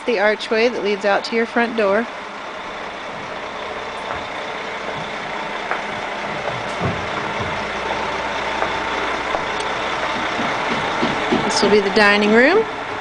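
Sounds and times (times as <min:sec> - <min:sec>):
machine noise with faint hum: 0:00.0 - 0:13.0.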